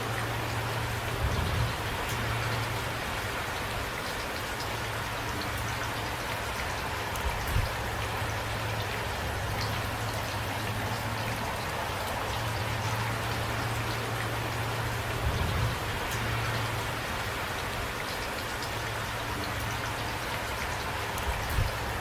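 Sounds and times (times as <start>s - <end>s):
light rain hissing: 0.0s - 22.0s
raindrops ticking: 0.0s - 22.0s.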